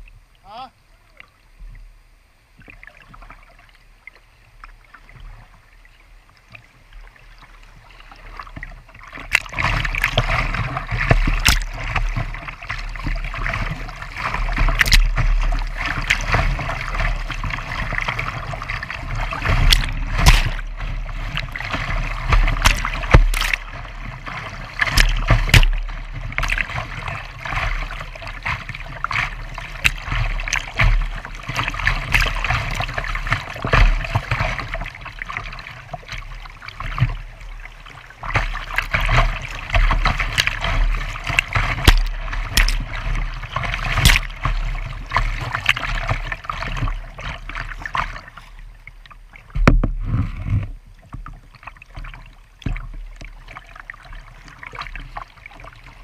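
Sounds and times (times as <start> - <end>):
paddle strokes: 2.6 - 56.0
water slapping hull: 2.6 - 56.0.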